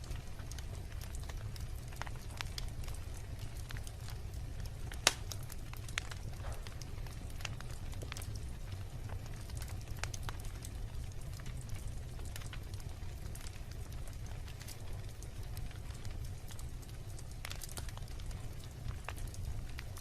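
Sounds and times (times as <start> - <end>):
bonfire crackling and popping: 0.0 - 20.0
low fire rumble: 0.0 - 20.0.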